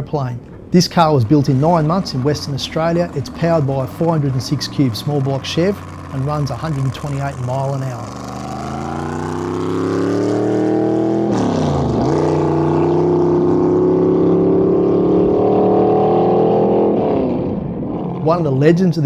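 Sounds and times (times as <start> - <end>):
car engine accelerating hard: 0.5 - 18.6.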